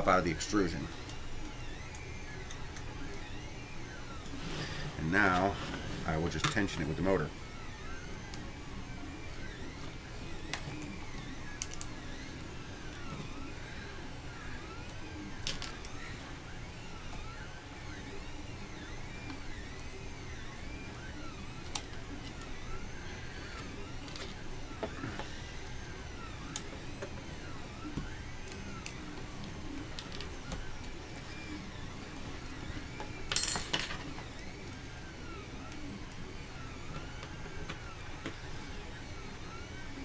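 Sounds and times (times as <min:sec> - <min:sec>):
stepper motors whining: 0:00.0 - 0:40.0.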